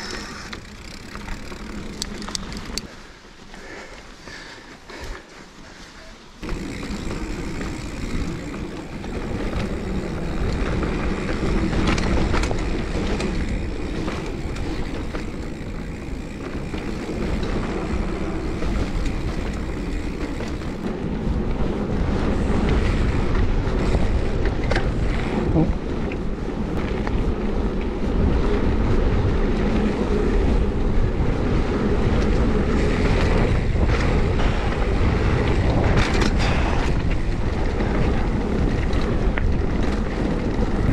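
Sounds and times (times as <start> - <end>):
bike knocks and rattles: 0.0 - 2.9, 6.4 - 40.9
tyres rumbling on dirt: 0.0 - 3.1, 6.3 - 40.9
wind buffeting microphone: 6.4 - 40.9.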